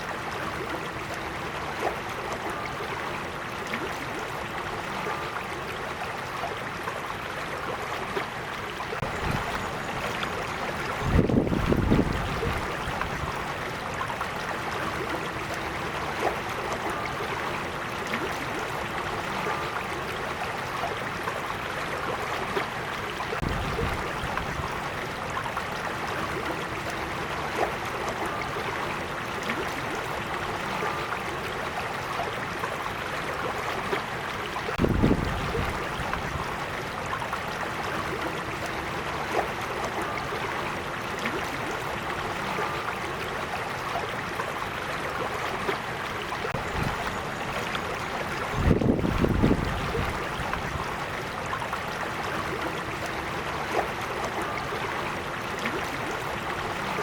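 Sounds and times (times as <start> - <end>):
creek babbling over stones: 0.0 - 57.0.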